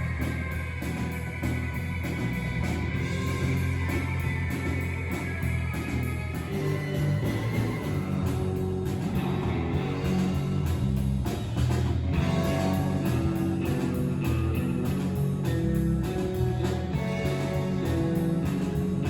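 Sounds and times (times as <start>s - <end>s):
bass guitar: 0.0s - 19.0s
drum kit beat: 0.0s - 19.0s
electric guitar: 0.0s - 19.0s.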